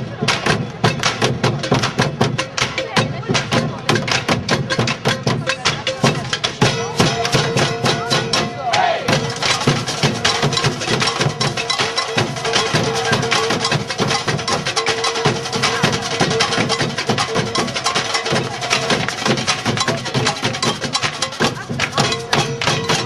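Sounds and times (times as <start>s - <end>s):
live music with fast percussion: 0.0s - 23.0s.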